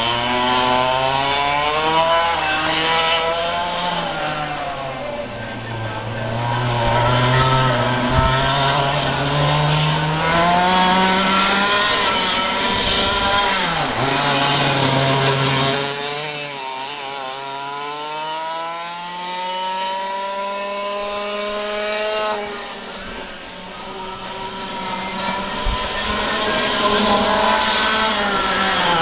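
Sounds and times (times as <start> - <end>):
racing kart engine accelerating: 0.0 - 29.0.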